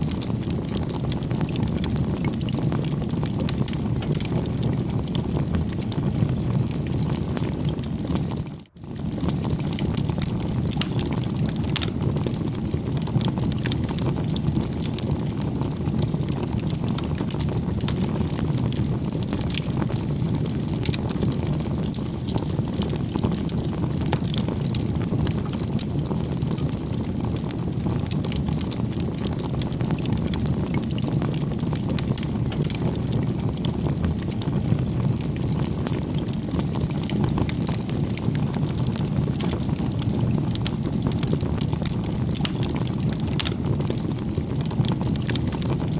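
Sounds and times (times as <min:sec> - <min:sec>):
fire crackling and popping: 0:00.0 - 0:45.9
fire flames rushing: 0:00.0 - 0:45.9.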